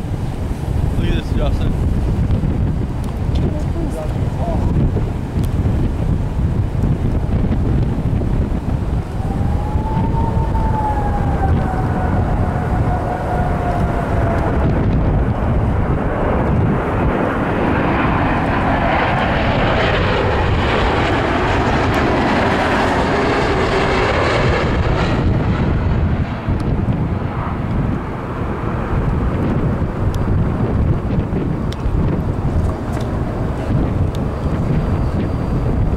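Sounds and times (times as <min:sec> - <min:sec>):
jet engine rush: 0:00.0 - 0:35.9
jet engine whine: 0:00.0 - 0:35.9
wind rumbling on microphone: 0:00.0 - 0:35.9.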